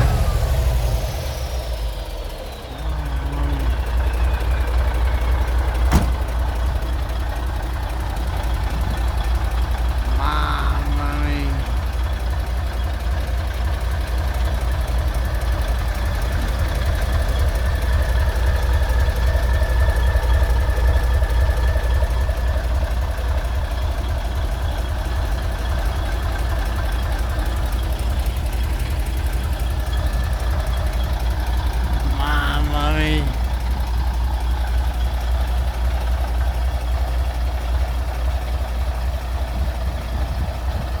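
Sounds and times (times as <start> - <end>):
diesel truck engine idling: 0.0 - 41.0.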